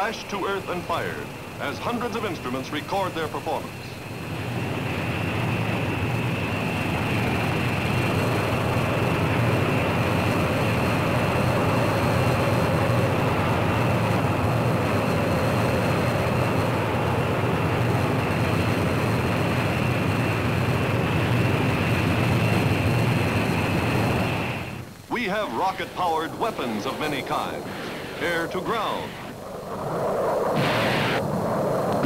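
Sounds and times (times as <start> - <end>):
rocket engine firing: 0.0 - 32.0.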